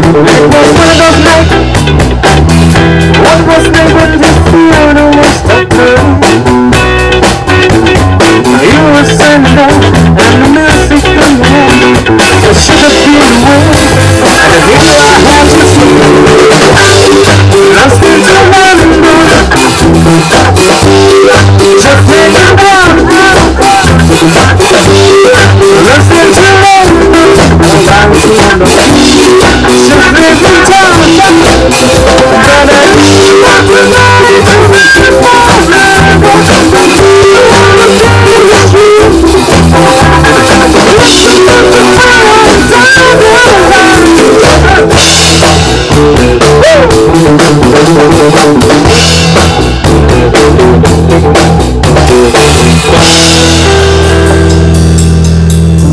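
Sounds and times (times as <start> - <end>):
bass guitar: 0.0 - 55.9
drum kit: 0.0 - 55.9
electric guitar: 0.0 - 55.9
rock band playing live: 0.0 - 55.9.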